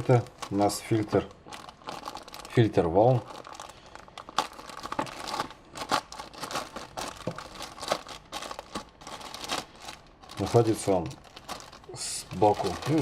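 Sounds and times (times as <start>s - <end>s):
packaging crinkling and rustling: 0.0s - 13.0s
stiff sheet crackling: 0.0s - 13.0s.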